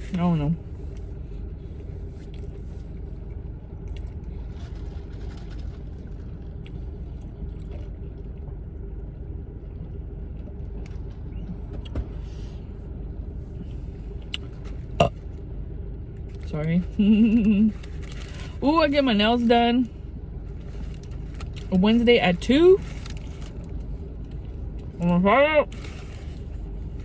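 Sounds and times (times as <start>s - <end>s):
car engine idling: 0.0s - 27.0s
faint steady hum: 0.0s - 27.0s.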